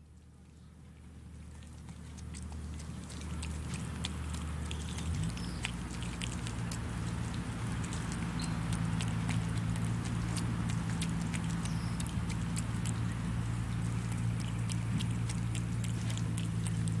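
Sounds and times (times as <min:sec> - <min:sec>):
steady low hum: 0:00.0 - 0:17.0
monkey chewing: 0:01.2 - 0:17.0.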